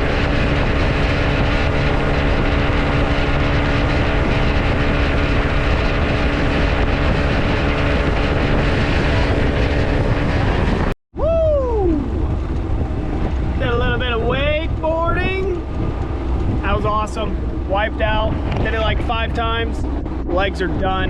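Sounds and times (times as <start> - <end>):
outboard motor running: 0.0 - 21.0
water noise: 0.0 - 21.0
wind: 0.0 - 21.0.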